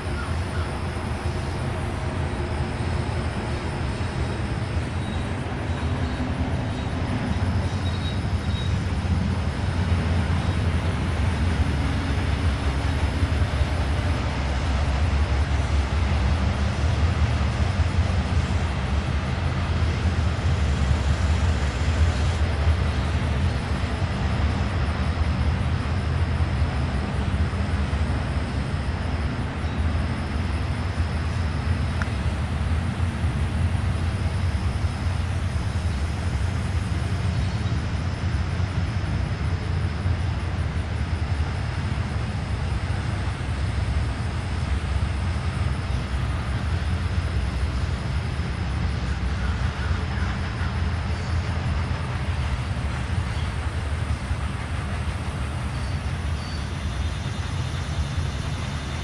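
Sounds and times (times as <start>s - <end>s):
freight train rumbling by: 0.0s - 59.0s.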